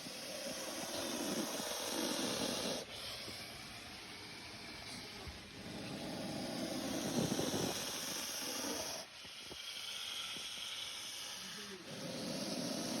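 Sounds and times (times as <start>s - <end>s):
cobra hissing: 0.0s - 13.0s.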